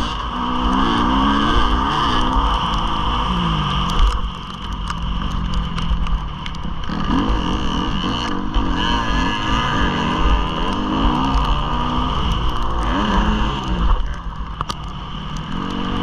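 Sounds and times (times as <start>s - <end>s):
motocross bike engine revving: 0.0s - 5.8s, 6.7s - 16.0s.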